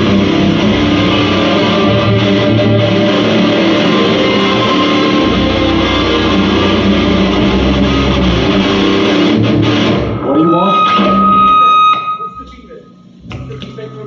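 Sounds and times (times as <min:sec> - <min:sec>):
electric guitar heavy chords: 0:00.0 - 0:12.4.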